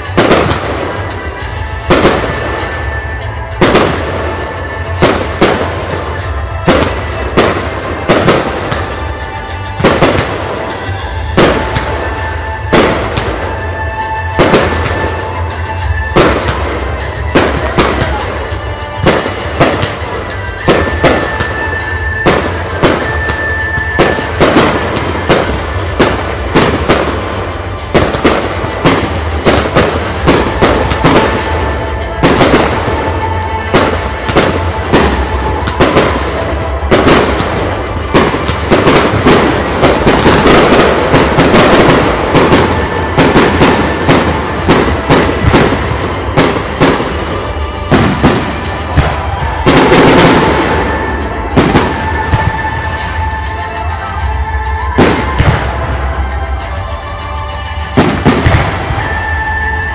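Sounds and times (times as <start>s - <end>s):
firework shells bursting: 0.0s - 54.2s.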